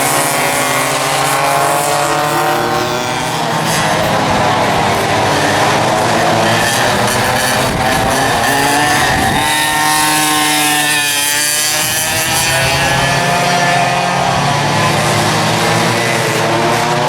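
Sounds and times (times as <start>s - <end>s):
kart engines racing: 0.0s - 17.0s.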